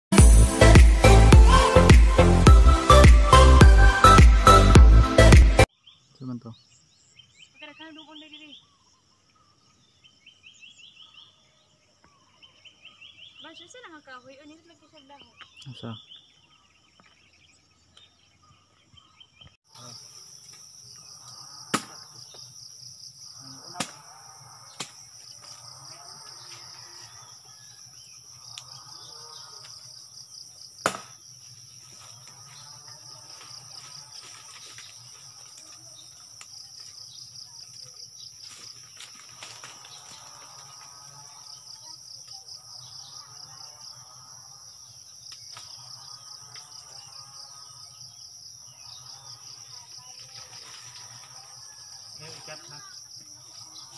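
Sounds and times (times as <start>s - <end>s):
insects chorus: 5.6s - 53.9s.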